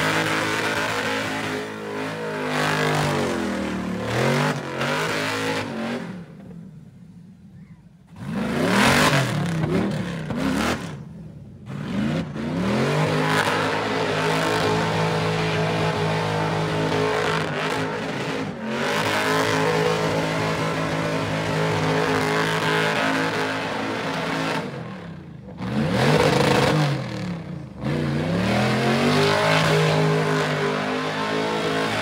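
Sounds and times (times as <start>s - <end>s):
car engine revving hard: 0.0s - 6.2s, 8.2s - 11.0s, 11.7s - 32.0s.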